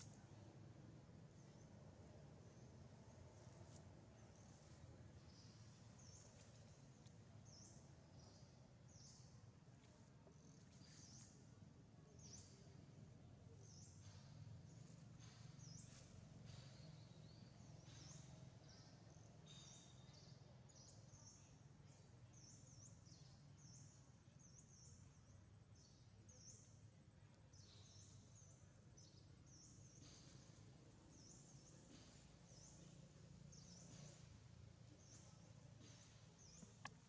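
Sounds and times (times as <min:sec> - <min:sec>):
low steady hum: 0:00.0 - 0:37.0
small birds chirping: 0:00.0 - 0:37.0.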